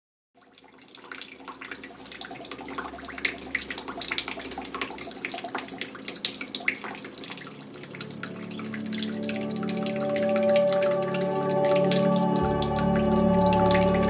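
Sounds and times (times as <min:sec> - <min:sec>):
water pouring from a tap: 0:00.4 - 0:14.0.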